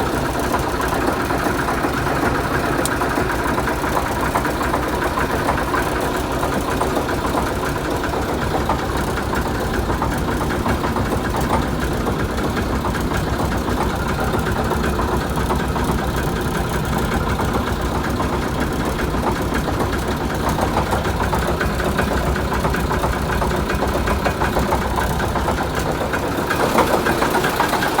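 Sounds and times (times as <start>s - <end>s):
diesel engine idling with clatter: 0.0s - 28.0s.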